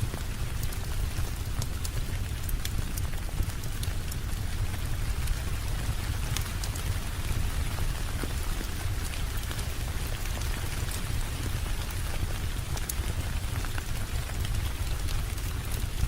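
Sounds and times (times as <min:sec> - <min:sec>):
heavy rain: 0:00.0 - 0:16.0
raindrop ticks: 0:00.0 - 0:16.0.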